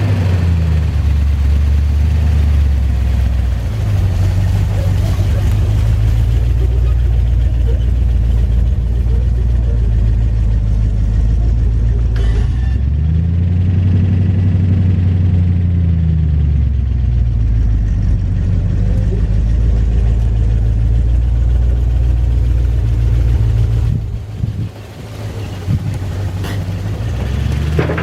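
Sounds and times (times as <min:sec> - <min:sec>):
pickup engine revving and idling: 0:00.0 - 0:28.0.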